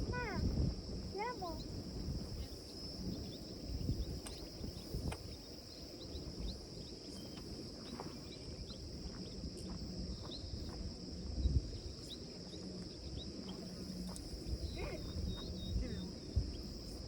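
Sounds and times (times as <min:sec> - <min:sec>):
insects droning: 0:00.0 - 0:17.0
short insect chirps: 0:00.0 - 0:17.0.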